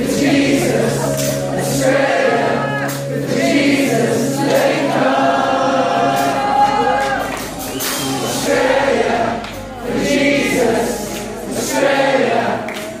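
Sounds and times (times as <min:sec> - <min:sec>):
band playing held chord: 0:00.0 - 0:13.0
voices singing: 0:00.0 - 0:13.0.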